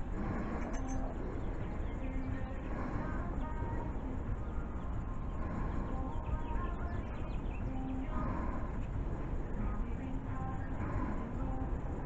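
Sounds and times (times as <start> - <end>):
faint bird chirps: 0.0 - 11.8
low outdoor rumble: 0.0 - 12.0.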